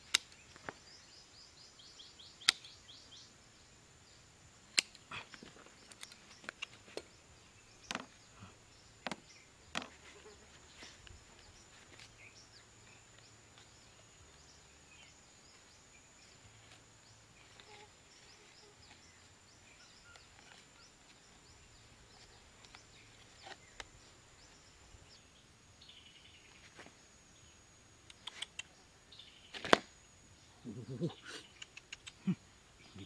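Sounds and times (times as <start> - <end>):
faint chirps: 0.0 - 33.0.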